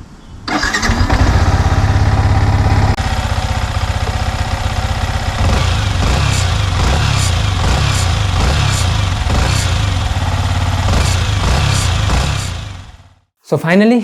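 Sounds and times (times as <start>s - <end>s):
motorcycle engine idling: 0.5s - 13.2s.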